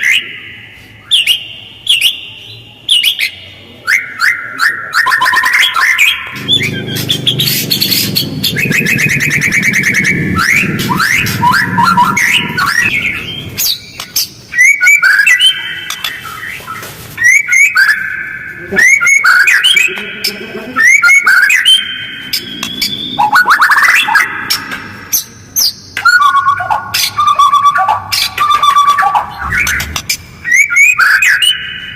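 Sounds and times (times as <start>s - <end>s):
bird singing harsh chattering phrases: 0.0s - 31.9s.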